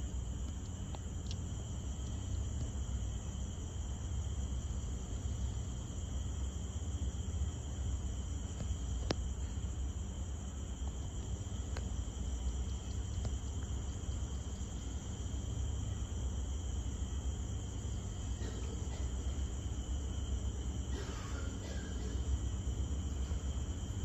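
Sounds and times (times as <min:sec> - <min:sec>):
low steady rumble: 0:00.0 - 0:24.0
night insects trilling: 0:00.0 - 0:24.0.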